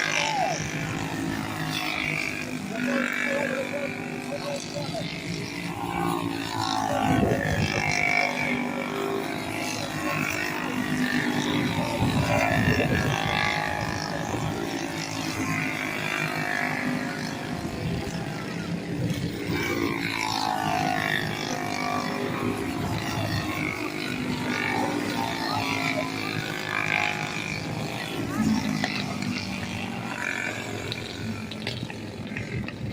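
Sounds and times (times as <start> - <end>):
small racing engines revving: 0.0 - 32.9.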